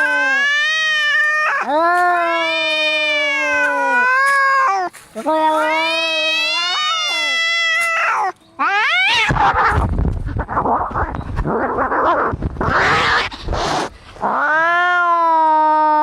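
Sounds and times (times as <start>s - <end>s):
cats screeching and scuffling: 0.0s - 16.0s
cats yowling: 0.0s - 16.0s.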